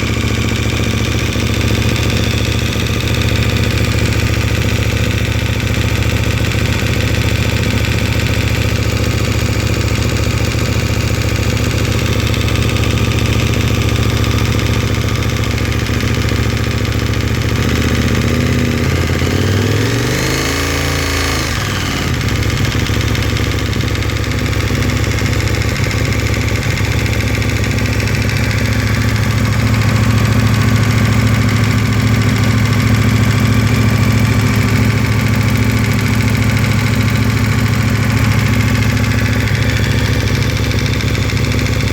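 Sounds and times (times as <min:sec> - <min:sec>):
motorcycle engine idling with clatter: 0:00.0 - 0:41.9.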